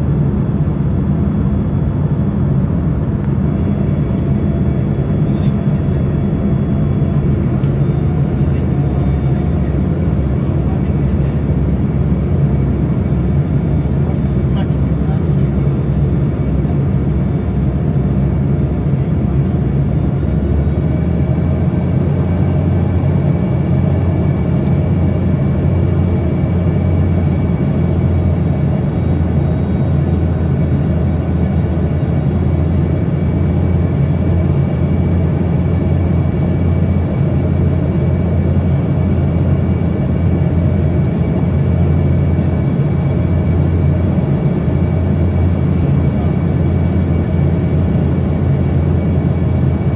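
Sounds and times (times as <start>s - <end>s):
airliner engines droning: 0.0s - 49.9s
high engine whine: 0.0s - 49.9s.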